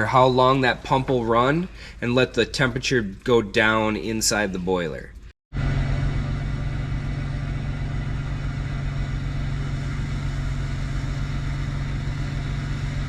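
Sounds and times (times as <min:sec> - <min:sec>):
gas heater low hum: 0:00.0 - 0:13.0.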